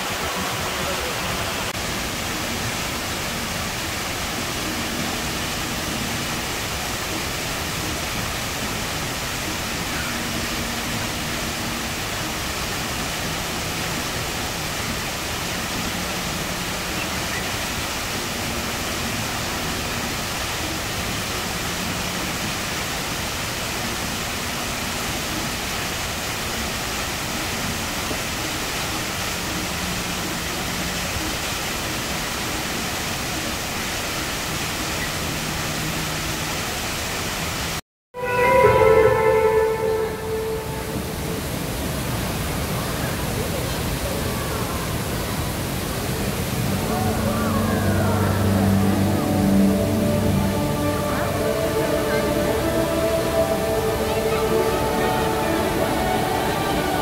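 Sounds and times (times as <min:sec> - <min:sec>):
indoor waterfall rushing: 0:00.0 - 0:57.0.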